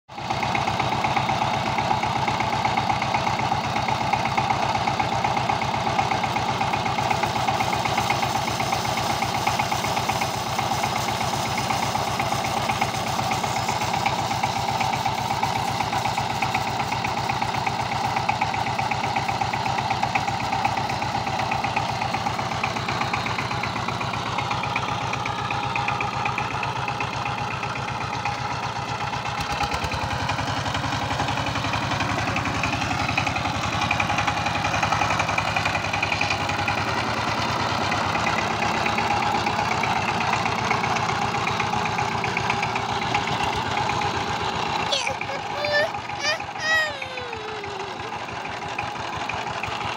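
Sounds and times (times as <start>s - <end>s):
diesel engine running: 0.1s - 49.9s.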